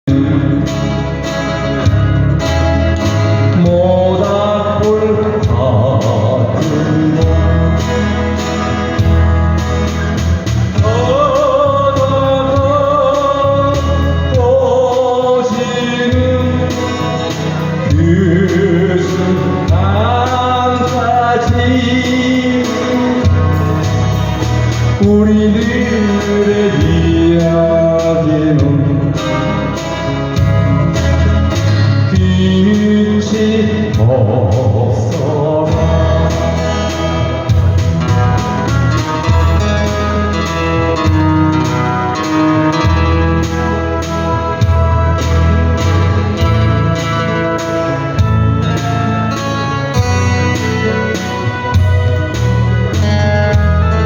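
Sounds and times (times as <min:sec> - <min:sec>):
instrumental accompaniment with bass: 0:00.0 - 0:54.0.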